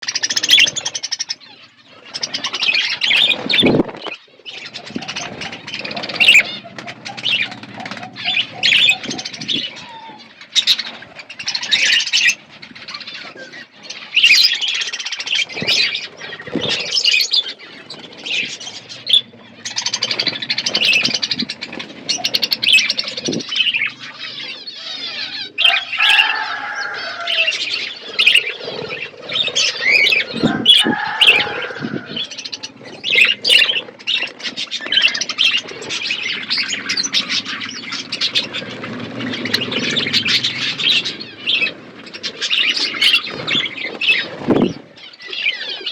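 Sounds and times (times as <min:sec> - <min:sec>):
budgerigar squawks: 0:00.0 - 0:45.9
budgerigars chattering and chirping: 0:00.0 - 0:45.9.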